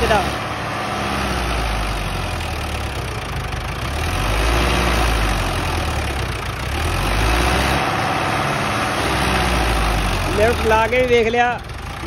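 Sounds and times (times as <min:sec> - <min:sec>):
tractor diesel engine straining: 0:00.0 - 0:12.0.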